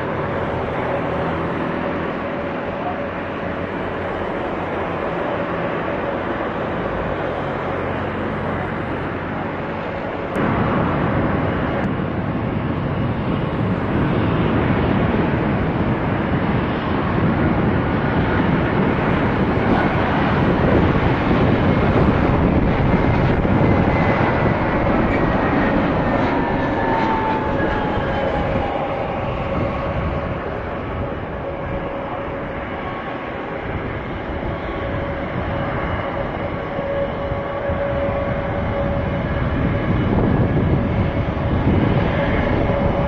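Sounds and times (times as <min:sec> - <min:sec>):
distant jet engines: 0:00.0 - 0:43.0
jet airliner engine noise: 0:00.0 - 0:43.0
jet engine whine: 0:00.0 - 0:43.0.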